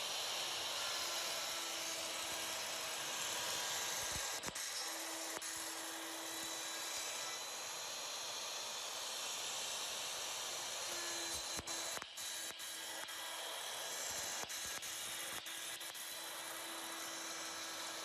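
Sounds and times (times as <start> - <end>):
router spindle high-pitched hiss: 0.0 - 18.0.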